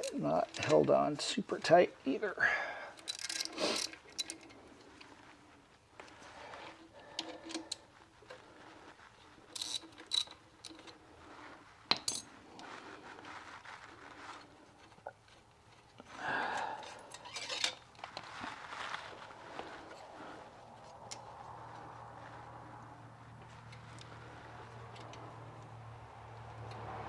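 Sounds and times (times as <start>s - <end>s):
short scraping rustle: 3.0s - 27.0s.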